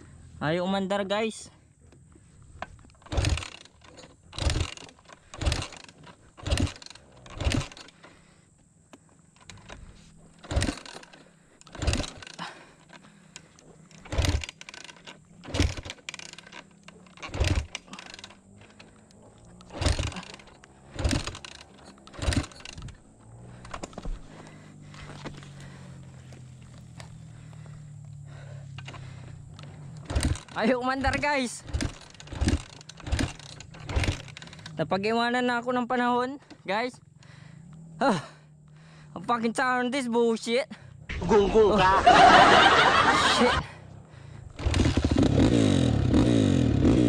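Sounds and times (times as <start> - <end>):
dirt bike kick-start clatter: 0.8 - 47.0.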